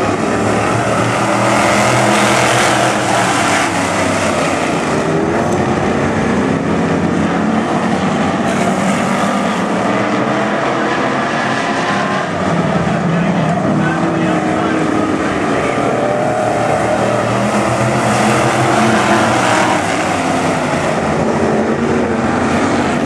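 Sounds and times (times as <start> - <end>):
race car engines roaring: 0.0 - 23.0.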